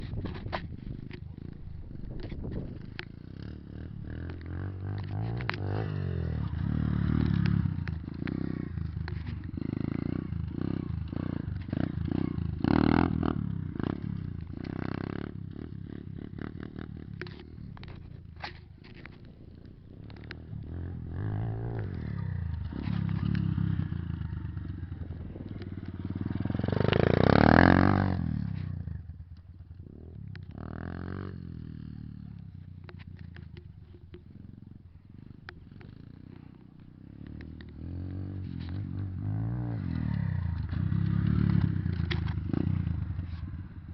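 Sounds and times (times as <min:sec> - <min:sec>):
pit bike engine revving: 0:01.0 - 0:43.9.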